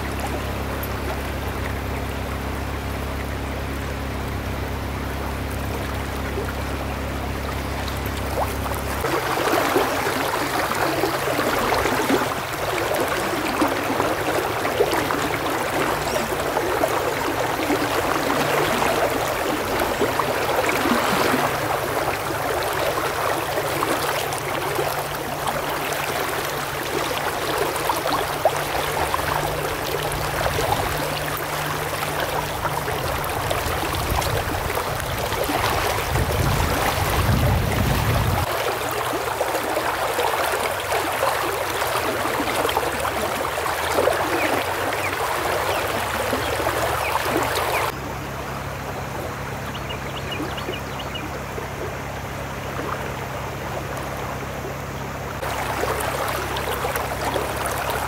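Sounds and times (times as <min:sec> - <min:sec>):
water rushing over rocks: 0:00.0 - 0:48.0, 0:55.2 - 0:58.0.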